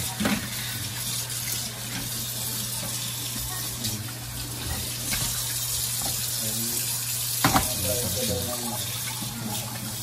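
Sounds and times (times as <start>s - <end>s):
faucet running into steel sink: 0.0s - 10.0s.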